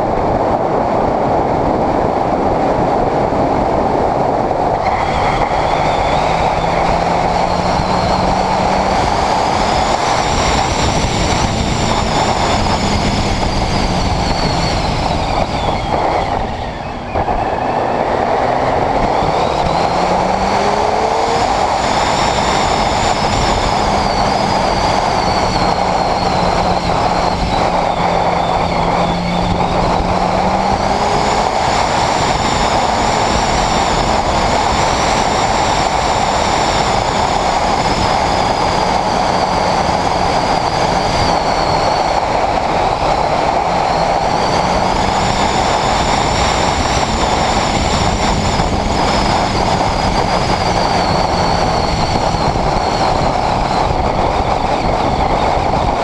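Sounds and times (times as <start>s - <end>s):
motorcycle engine running: 0.0s - 56.0s
wind and road rush: 0.0s - 56.0s.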